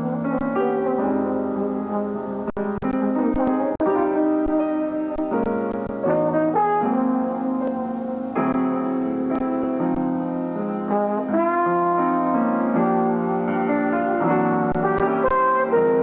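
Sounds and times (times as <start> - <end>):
jazz trombone melody: 0.0 - 16.0
piano chords: 0.0 - 16.0.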